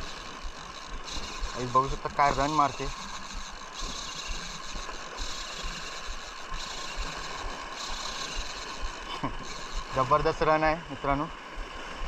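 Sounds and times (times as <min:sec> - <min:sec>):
fishing reel drag buzzing: 0:00.0 - 0:12.0.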